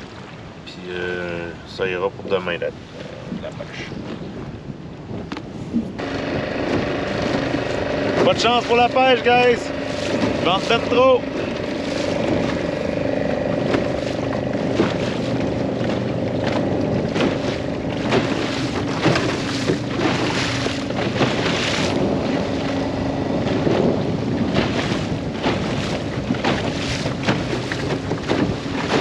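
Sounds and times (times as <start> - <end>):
wind gusts on microphone: 0.0 - 29.0
boat motor running: 5.3 - 29.0.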